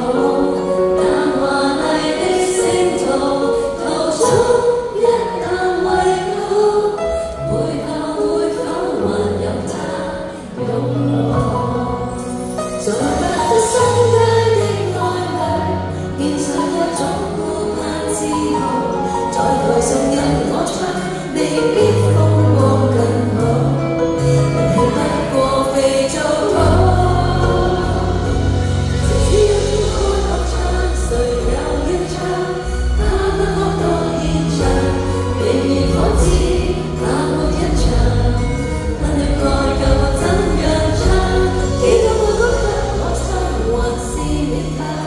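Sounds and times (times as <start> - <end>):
live band playing: 0.0 - 45.0
woman singing into a microphone: 0.0 - 45.0.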